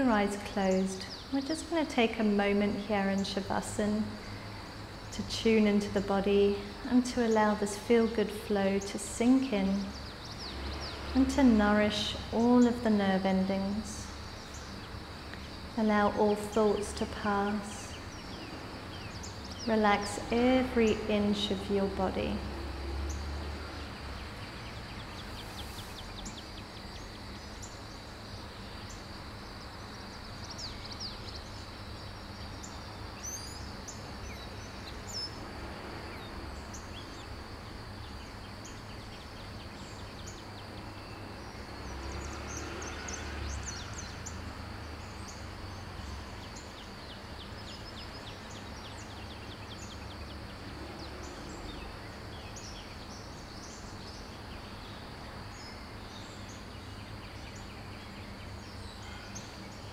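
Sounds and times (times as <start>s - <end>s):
birds chirping: 0.0s - 35.5s, 36.1s - 59.9s.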